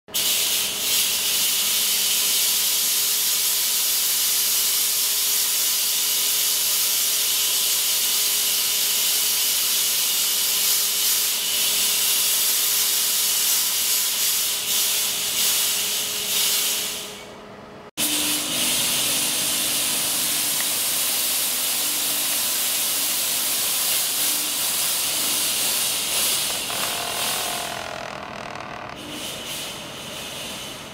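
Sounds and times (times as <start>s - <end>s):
fog machine hissing: 0.2s - 17.2s, 18.0s - 30.9s.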